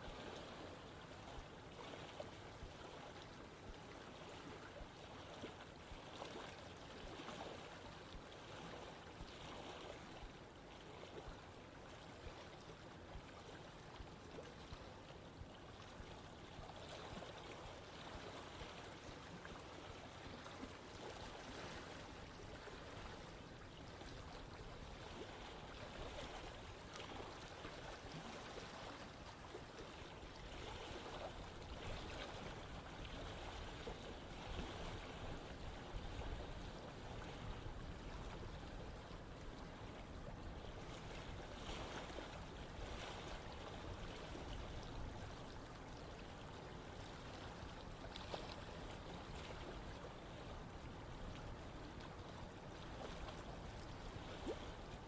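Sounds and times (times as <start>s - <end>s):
stream water rushing and gurgling: 0.0s - 55.0s.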